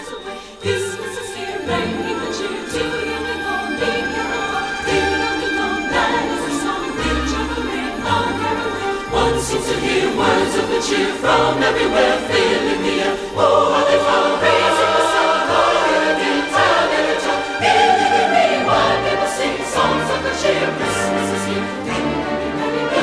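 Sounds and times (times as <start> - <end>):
choir singing sustained chords: 0.0 - 23.0.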